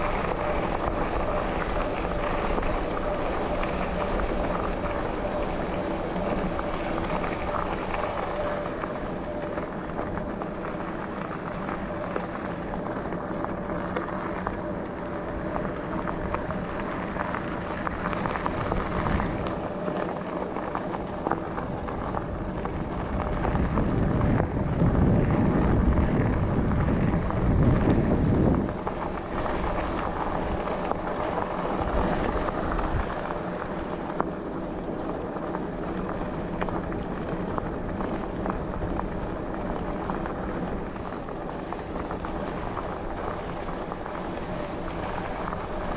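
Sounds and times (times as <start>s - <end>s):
bicycle tyres rolling on track: 0.0s - 45.9s
steady hum: 0.0s - 45.9s
wind on microphone: 0.0s - 45.9s.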